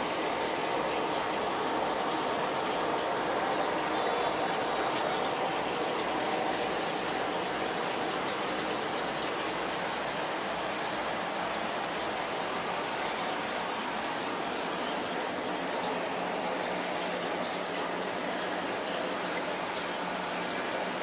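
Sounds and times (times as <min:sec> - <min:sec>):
aquarium filter bubbling water: 0:00.0 - 0:21.0.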